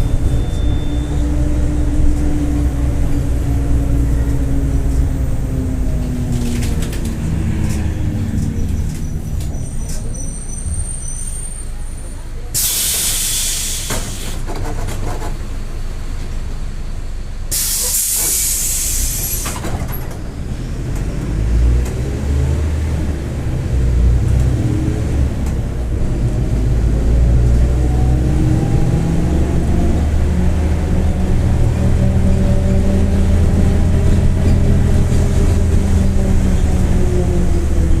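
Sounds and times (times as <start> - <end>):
diesel engine pulling away: 0.0 - 38.0.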